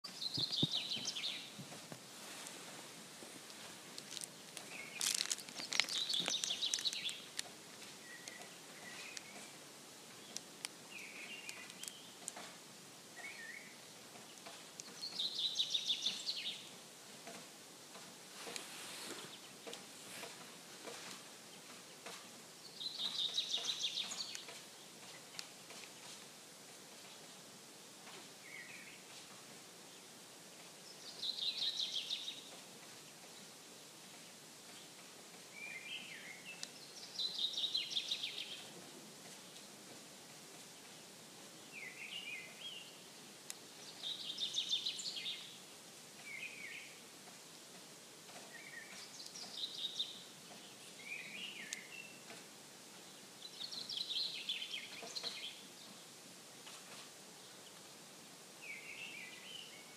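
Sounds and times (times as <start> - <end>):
faint lakeshore ambience: 0.0 - 59.9
songbirds singing: 0.0 - 59.9.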